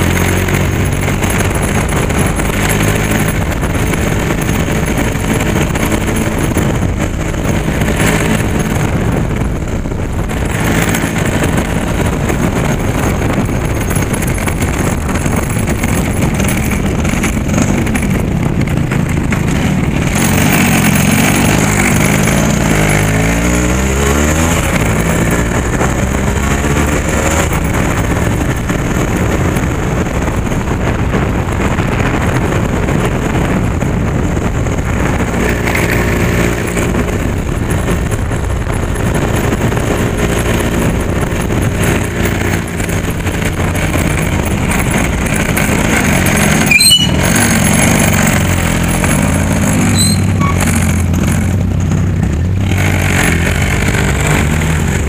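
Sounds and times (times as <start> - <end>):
road and wind noise: 0.0 - 55.0
vehicle engine running: 0.0 - 55.0.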